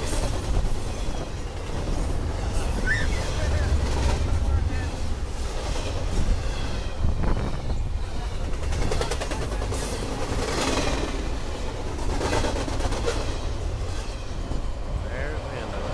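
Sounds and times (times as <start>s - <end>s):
wheels clicking over rail joints: 0.0s - 14.8s
train rumbling: 0.0s - 15.9s.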